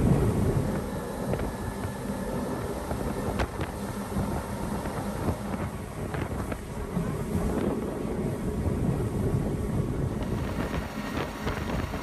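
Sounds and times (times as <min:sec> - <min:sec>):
motorboat engine and water rushing: 0:00.0 - 0:12.0
wind buffeting microphone: 0:00.0 - 0:12.0.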